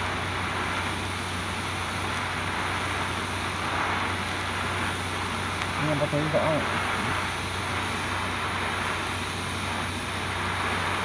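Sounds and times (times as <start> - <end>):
welding arc hissing: 0.0 - 11.0.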